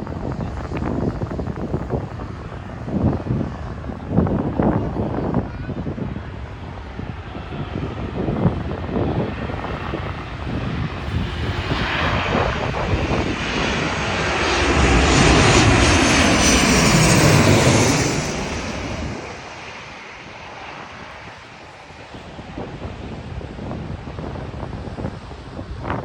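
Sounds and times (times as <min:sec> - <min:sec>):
jet airliner passing overhead: 0:00.0 - 0:26.0.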